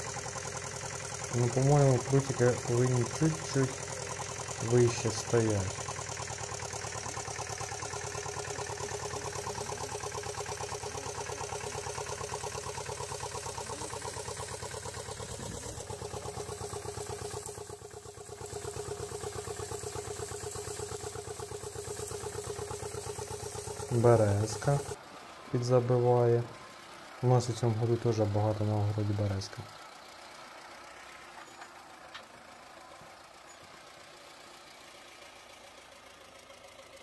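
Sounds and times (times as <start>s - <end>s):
small tractor engine running: 0.0s - 37.0s.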